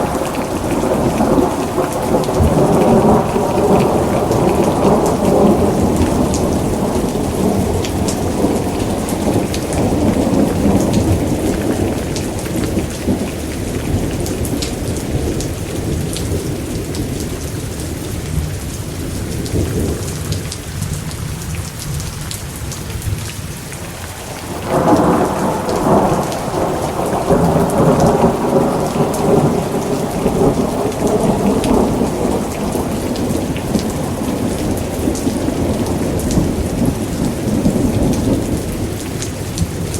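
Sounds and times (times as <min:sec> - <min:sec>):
rolling thunder: 0:00.0 - 0:17.4, 0:24.4 - 0:39.9
heavy rain: 0:00.0 - 0:39.9.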